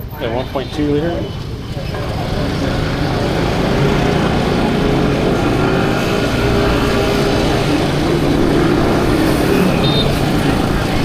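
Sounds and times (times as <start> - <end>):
scooter engine droning: 1.4 - 11.0.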